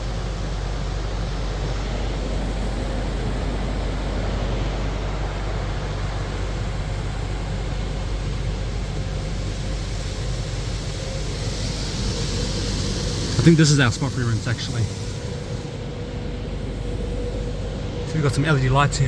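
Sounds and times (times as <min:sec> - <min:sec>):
steady low rumble: 0:00.0 - 0:19.0
water spraying over car: 0:00.0 - 0:19.0.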